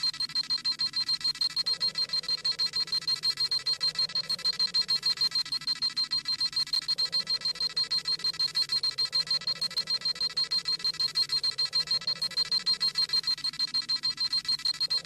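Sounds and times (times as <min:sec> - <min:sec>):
rapid electronic beeping: 0:00.0 - 0:15.0.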